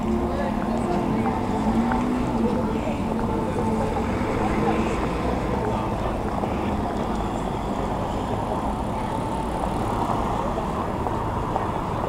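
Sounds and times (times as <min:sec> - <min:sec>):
busy city street traffic: 0:00.0 - 0:12.0.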